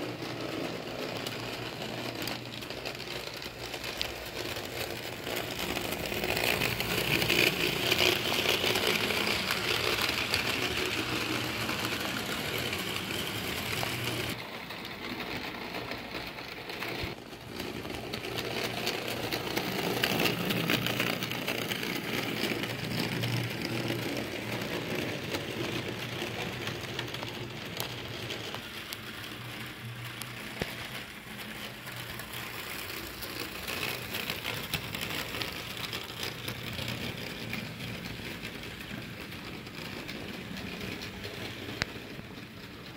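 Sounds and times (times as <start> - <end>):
model train wheels rattling on rails: 0.0 - 42.9.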